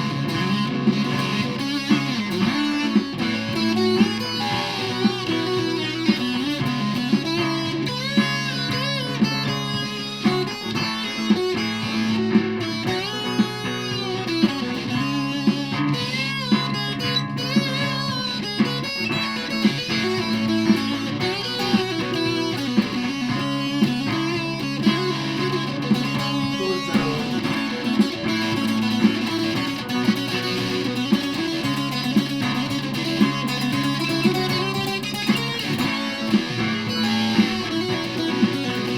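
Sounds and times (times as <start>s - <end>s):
fuzz electric guitar: 0.0s - 38.9s
sharp beat keeping time: 0.0s - 38.9s.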